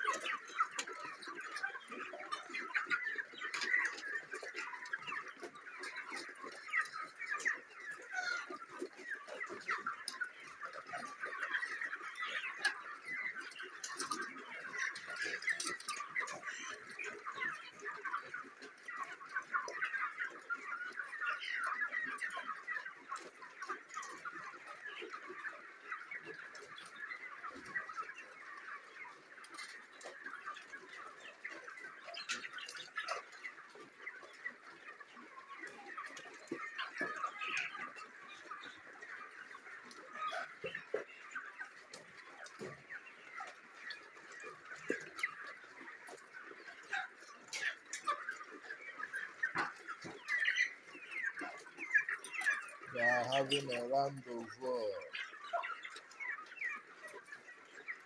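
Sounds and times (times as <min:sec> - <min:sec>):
chickens calling: 0:00.0 - 0:58.0.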